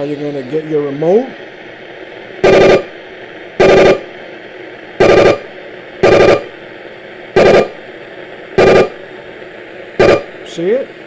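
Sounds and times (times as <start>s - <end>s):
radio speaker buzzing: 0.0s - 11.0s
radio static: 0.0s - 11.0s.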